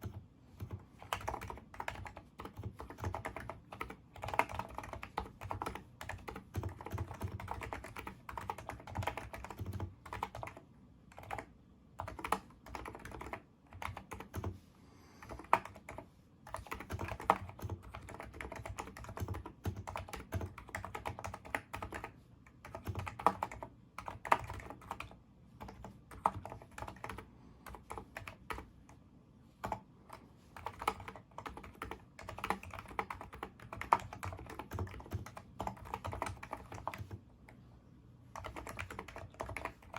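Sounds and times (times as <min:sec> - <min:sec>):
keyboard typing: 0:00.0 - 0:14.6, 0:15.2 - 0:29.0, 0:29.6 - 0:37.6, 0:38.4 - 0:39.9.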